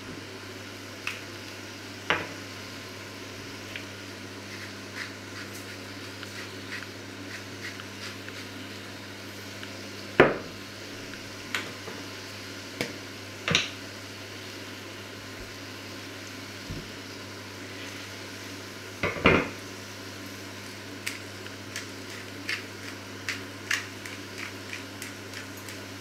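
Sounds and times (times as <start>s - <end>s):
meat frying in a pan: 0.2s - 26.0s.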